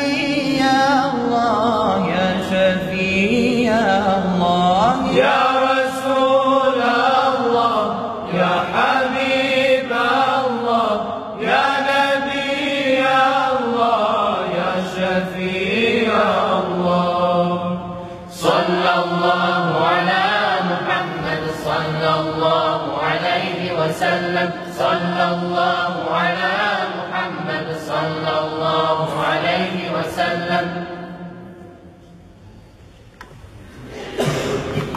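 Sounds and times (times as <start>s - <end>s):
male choir singing: 0.0s - 31.6s.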